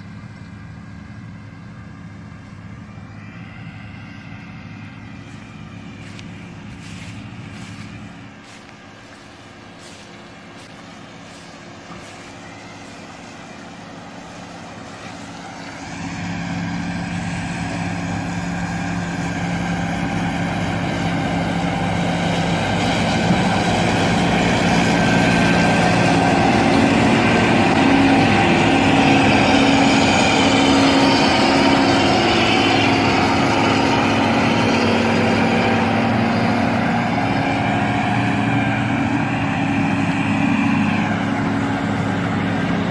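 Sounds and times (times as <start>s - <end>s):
windrower diesel engine running: 0.0s - 42.9s
mowing header cutting grass: 1.8s - 42.9s.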